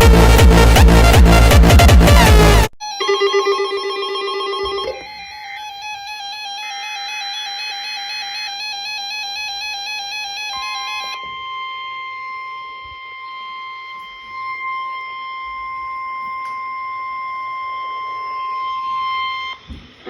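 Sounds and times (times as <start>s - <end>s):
steady high-pitched alarm tone: 2.8s - 19.7s.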